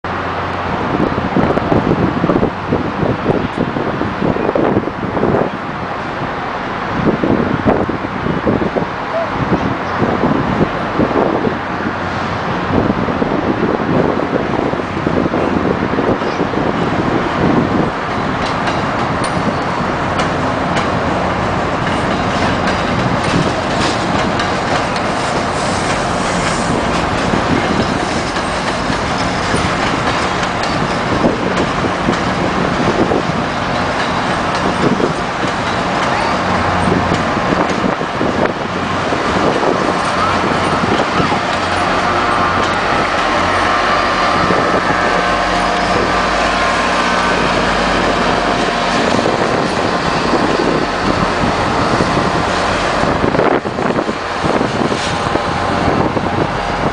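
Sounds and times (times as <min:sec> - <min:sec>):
locomotive engine hum: 0:00.0 - 0:56.9
train wheels on rails: 0:00.1 - 0:56.9.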